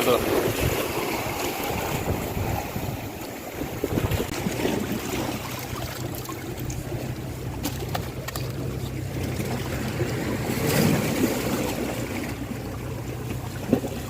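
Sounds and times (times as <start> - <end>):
wind buffeting microphone: 0.0 - 12.8
surf washing: 0.0 - 14.0
low engine hum: 0.6 - 14.0.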